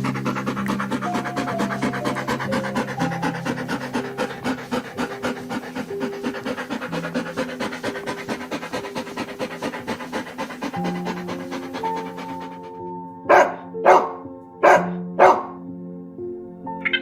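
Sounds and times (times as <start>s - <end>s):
animal panting: 0.0s - 15.4s.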